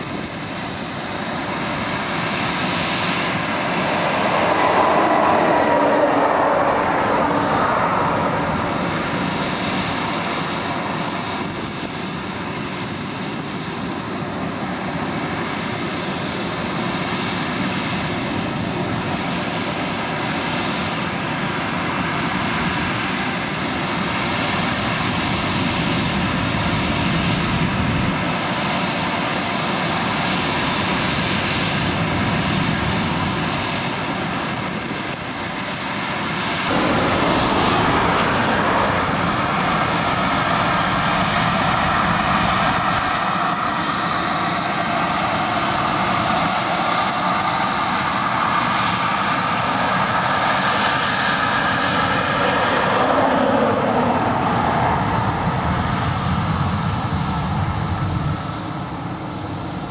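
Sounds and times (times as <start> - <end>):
jet airliner engines: 0.0 - 59.9.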